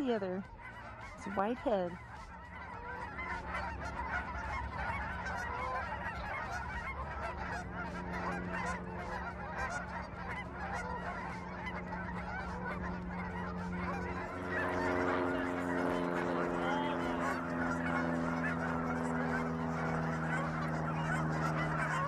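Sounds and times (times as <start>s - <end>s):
geese honking and yelping: 0.0s - 22.0s
steady low hum: 0.0s - 22.0s.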